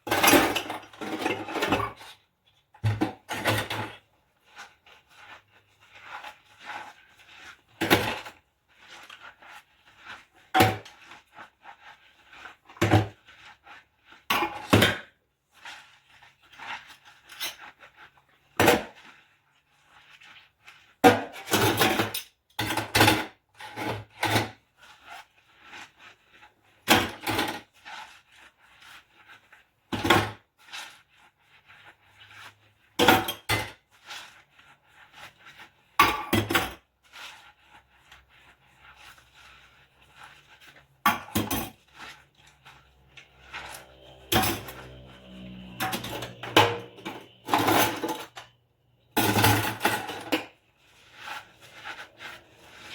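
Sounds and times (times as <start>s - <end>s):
faint scrubbing: 3.1s - 22.1s, 23.5s - 52.9s.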